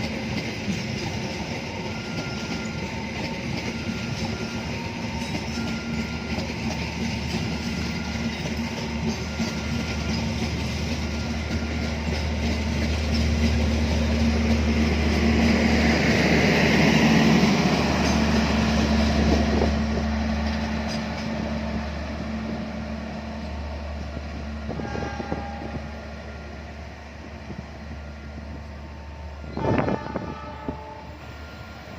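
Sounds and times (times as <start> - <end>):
train passing: 0.0 - 31.9.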